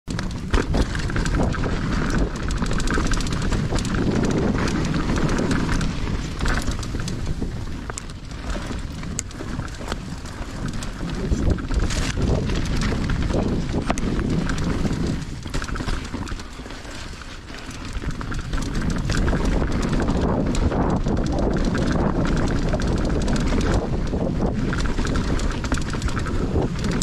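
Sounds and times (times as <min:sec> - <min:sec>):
bike rattling and clicking: 0:00.0 - 0:27.0
wind buffeting microphone: 0:00.1 - 0:27.0.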